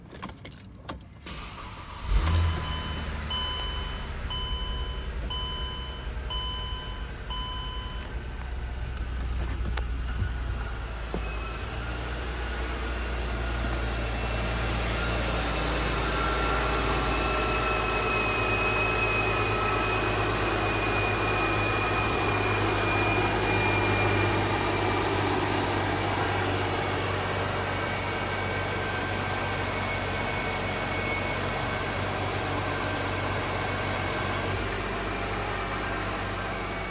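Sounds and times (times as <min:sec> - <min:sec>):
car engine starting and idling: 0:00.0 - 0:36.9
car warning chime beeping: 0:01.3 - 0:09.2, 0:14.0 - 0:36.9.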